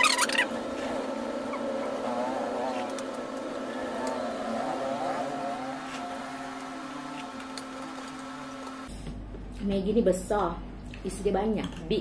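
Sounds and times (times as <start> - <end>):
mechanical hum with whir: 0.0 - 12.0.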